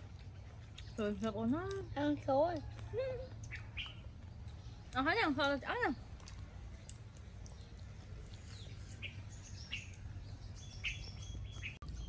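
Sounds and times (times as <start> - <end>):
birds chirping: 0.0 - 12.0
low outdoor hum: 0.0 - 12.0.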